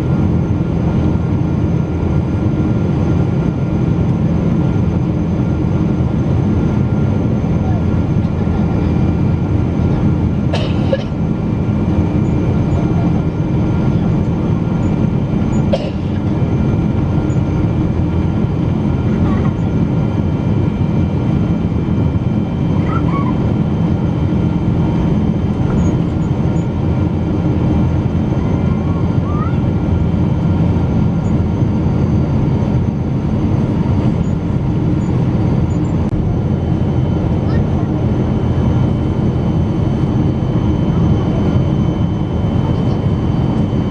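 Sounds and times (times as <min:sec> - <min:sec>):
airliner engine and airflow drone: 0:00.0 - 0:43.9.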